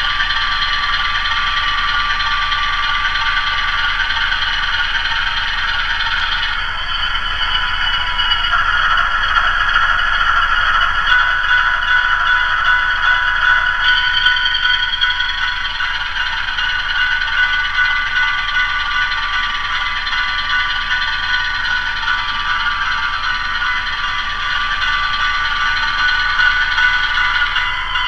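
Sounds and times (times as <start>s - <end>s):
diesel engine sound through small speaker: 0.0s - 28.0s
model train cars rolling on track: 0.0s - 28.0s.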